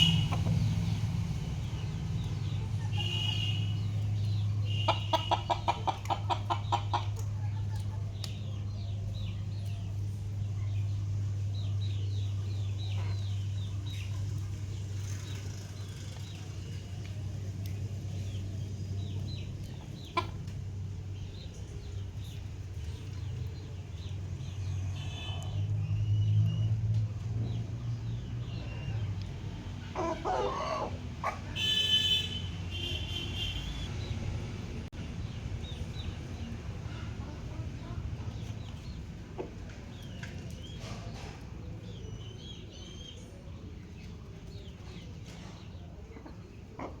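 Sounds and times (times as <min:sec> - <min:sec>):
chickens clucking: 0:00.0 - 0:25.7, 0:28.5 - 0:31.8, 0:36.3 - 0:41.8, 0:43.0 - 0:47.0.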